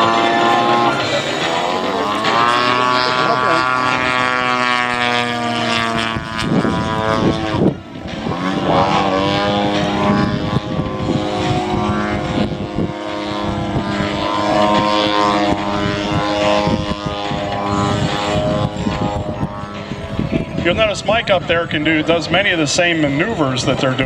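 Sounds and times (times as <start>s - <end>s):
model plane engine revving: 0.0s - 24.0s.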